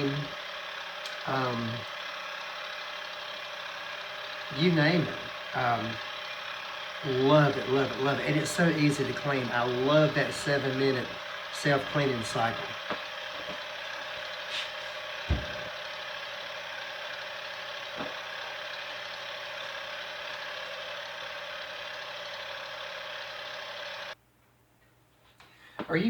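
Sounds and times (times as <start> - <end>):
ice cream maker motor humming: 0.0 - 24.2.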